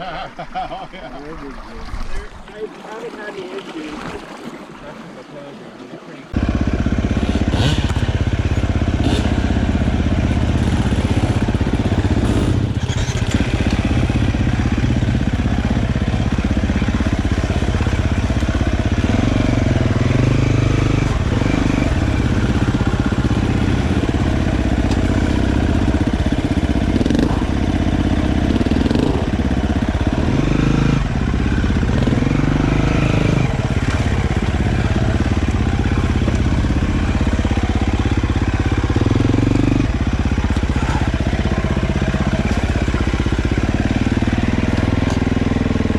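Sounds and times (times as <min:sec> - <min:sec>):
dirt bike engine revving: 0:06.3 - 0:45.9.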